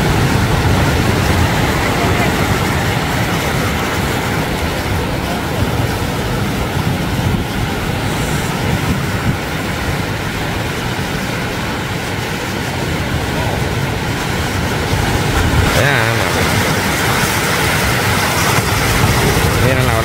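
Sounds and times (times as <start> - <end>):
sea surf rushing: 0.0 - 20.0
wind buffeting microphone: 0.0 - 20.0.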